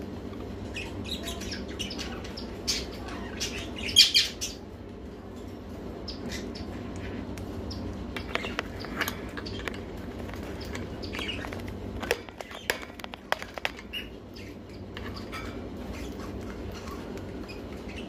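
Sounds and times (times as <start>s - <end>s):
parakeet chirps: 0.5s - 4.8s, 5.7s - 18.0s.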